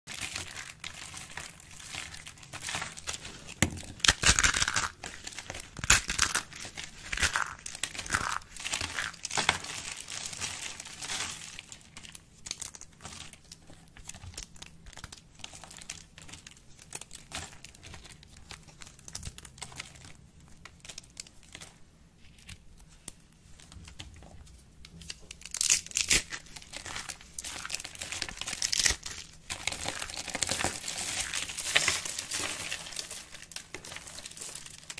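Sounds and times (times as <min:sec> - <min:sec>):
dry soap flakes crackling: 0:00.1 - 0:34.9.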